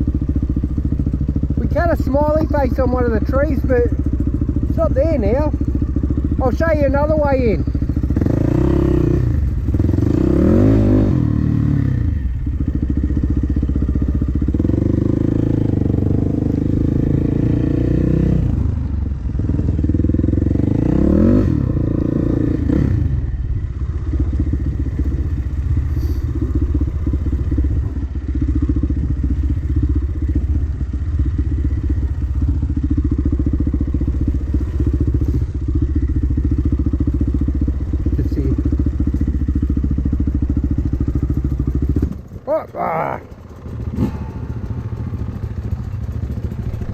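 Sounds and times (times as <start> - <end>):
dirt bike engine revving: 0.0 - 13.2, 14.2 - 23.4, 24.0 - 46.9.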